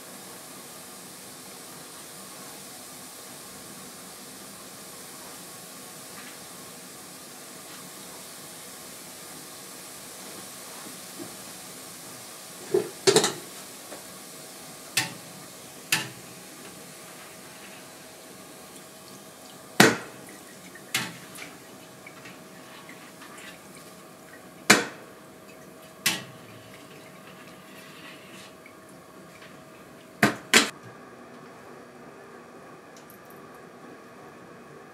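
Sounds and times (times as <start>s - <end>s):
food sizzling in oil: 0.1s - 30.2s.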